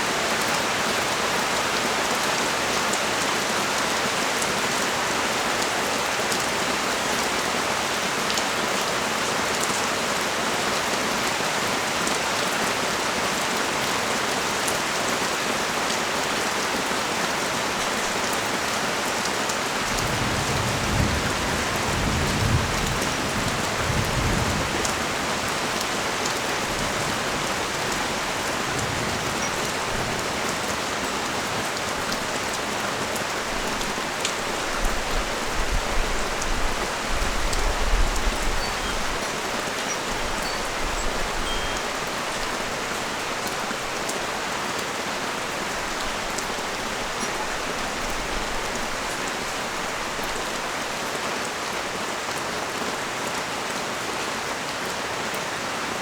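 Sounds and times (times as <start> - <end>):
rain falling on a street: 0.0 - 56.0.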